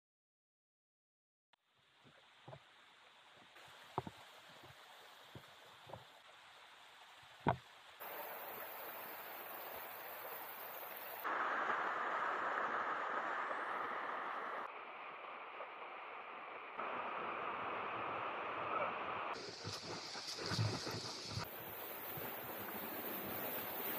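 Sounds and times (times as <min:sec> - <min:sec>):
rushing stream and waterfall: 0:01.6 - 0:23.9.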